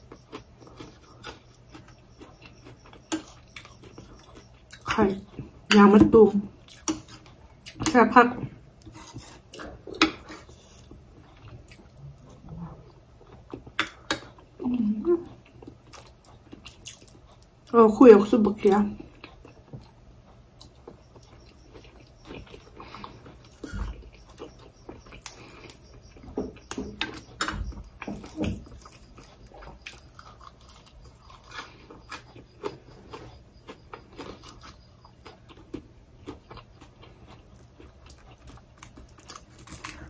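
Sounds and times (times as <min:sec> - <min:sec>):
person chewing: 0:00.0 - 0:05.7, 0:06.6 - 0:07.9, 0:08.7 - 0:14.6, 0:15.2 - 0:17.7, 0:19.0 - 0:40.0.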